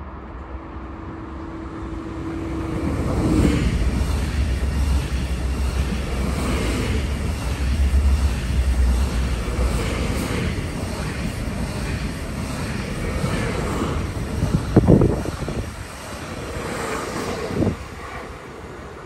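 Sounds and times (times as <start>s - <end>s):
rushing air: 0.0s - 19.0s
train wheels rumbling on rails: 0.0s - 19.0s.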